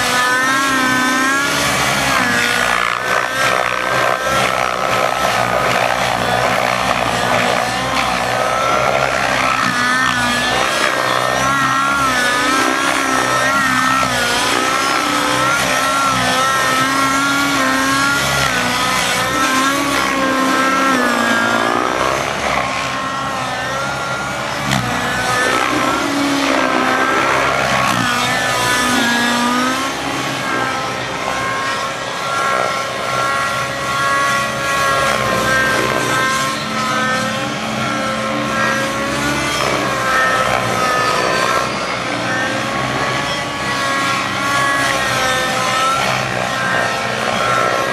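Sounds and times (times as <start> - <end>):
model helicopter engine and rotors: 0.0 - 47.9.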